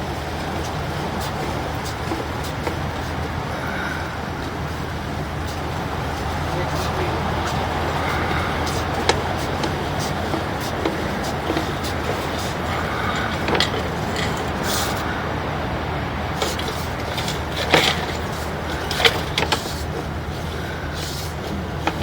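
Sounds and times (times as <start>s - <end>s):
light clicks and knocks: 0.0s - 15.1s, 16.3s - 22.0s
low engine hum: 0.0s - 22.0s.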